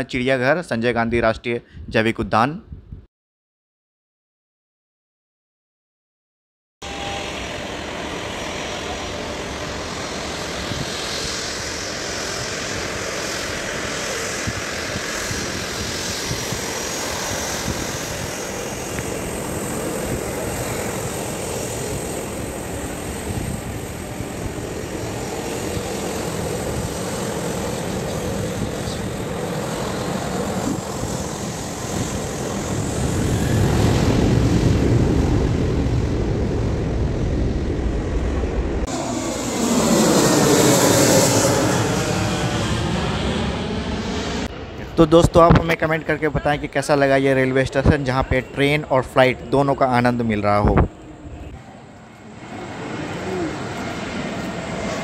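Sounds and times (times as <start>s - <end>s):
jet airliner engines running: 6.8s - 55.0s.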